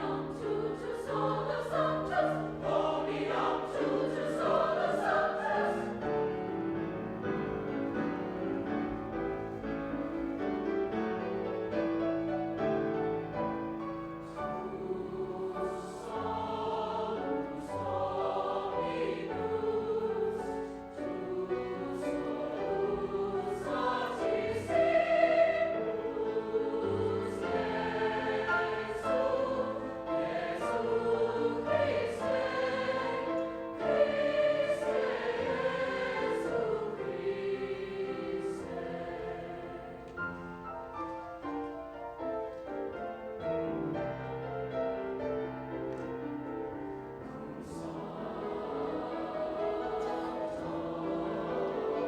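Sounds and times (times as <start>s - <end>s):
choir singing: 0.0s - 52.0s.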